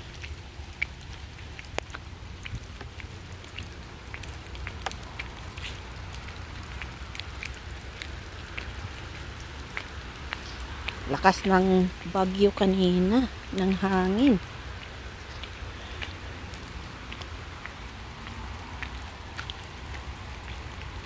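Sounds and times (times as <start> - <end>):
rain drops on wet pavement: 0.0 - 21.0.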